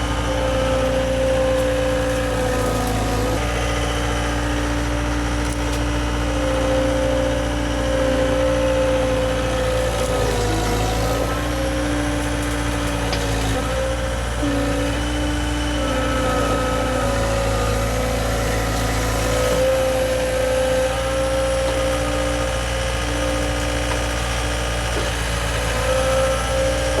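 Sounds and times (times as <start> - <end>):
loader engine running: 0.0 - 27.0
whine shifting in pitch: 0.0 - 27.0.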